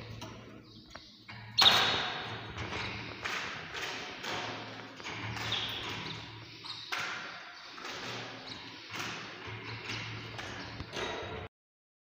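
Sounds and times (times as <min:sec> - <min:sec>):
canaries chirping: 0:00.0 - 0:11.5
taps on wire cages: 0:00.2 - 0:11.4.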